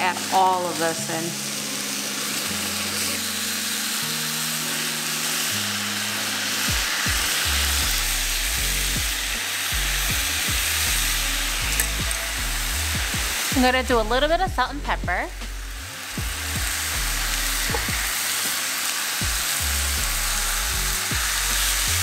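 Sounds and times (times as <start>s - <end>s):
background music: 0.0s - 22.0s
meat sizzling in frying pan: 0.0s - 22.0s.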